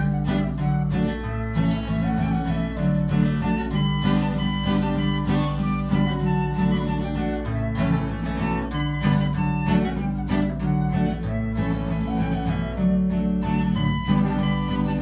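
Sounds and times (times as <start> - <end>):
strummed acoustic guitar: 0.0 - 15.0
tin whistle melody: 0.0 - 15.0.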